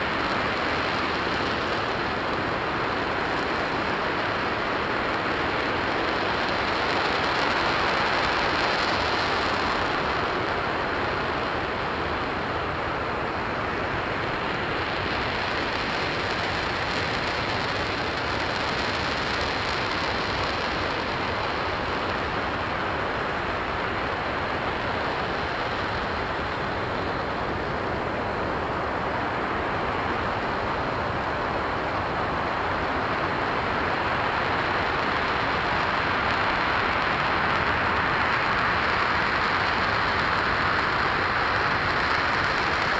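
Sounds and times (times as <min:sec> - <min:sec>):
rocket engine roaring: 0:00.0 - 0:42.9.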